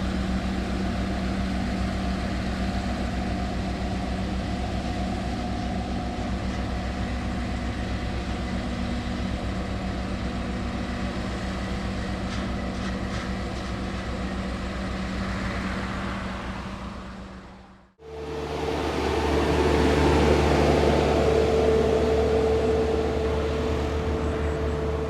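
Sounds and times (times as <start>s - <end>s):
heavy diesel engine throbbing: 0.0s - 25.0s.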